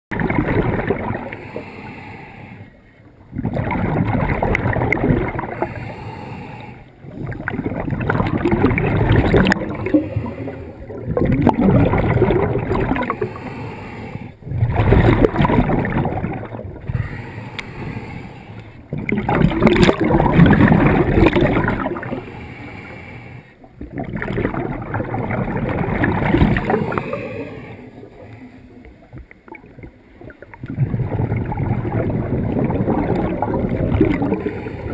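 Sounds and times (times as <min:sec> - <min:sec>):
diver exhaling bubbles underwater: 0:00.1 - 0:01.4, 0:03.3 - 0:05.9, 0:07.0 - 0:18.2, 0:18.8 - 0:22.4, 0:23.8 - 0:28.3, 0:29.5 - 0:34.9.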